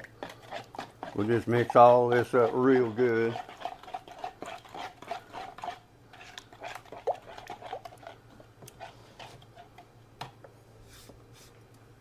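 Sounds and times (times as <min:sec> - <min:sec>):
utensil stirring and scraping container: 0:00.0 - 0:09.9.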